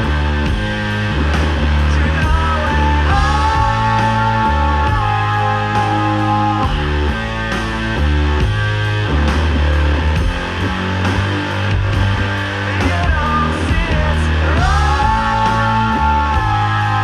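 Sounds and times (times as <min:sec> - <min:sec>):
heavy metal guitars: 0:00.0 - 0:17.0.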